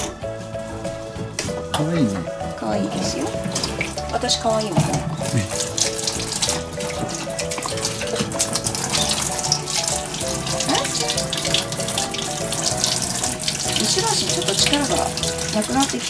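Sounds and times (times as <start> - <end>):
simple music melody: 0.0 - 16.0
water spraying from shower hose: 2.8 - 16.0.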